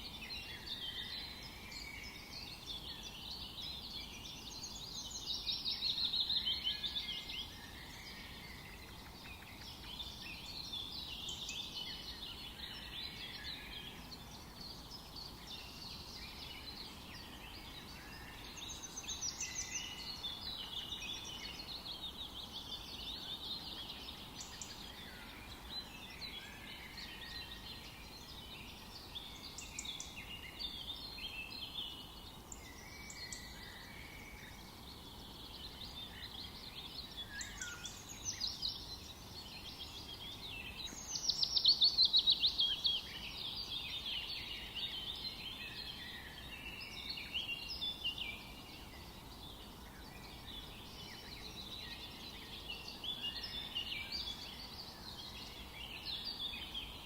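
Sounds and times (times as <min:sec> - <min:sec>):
birds singing and calling: 0:00.0 - 0:57.0
low background hiss: 0:00.0 - 0:57.0.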